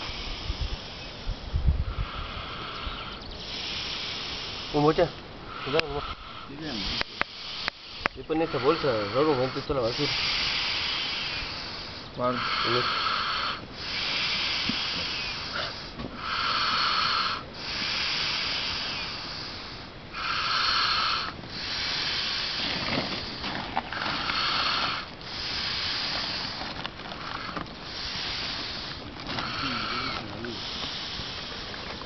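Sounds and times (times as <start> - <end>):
man snoring: 2.0 - 23.4, 24.0 - 26.6, 27.2 - 31.8.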